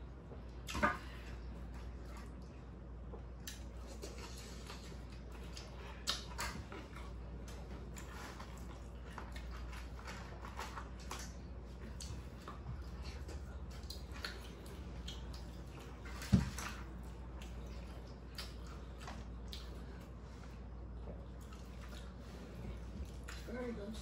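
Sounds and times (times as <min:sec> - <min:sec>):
wet chewing and lip-smacking: 0:01.4 - 0:24.0.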